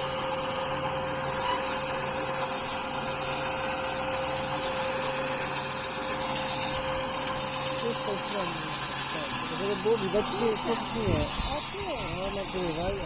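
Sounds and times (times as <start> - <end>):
sawmill machine drone: 0.0 - 13.0
high hiss: 0.1 - 13.0.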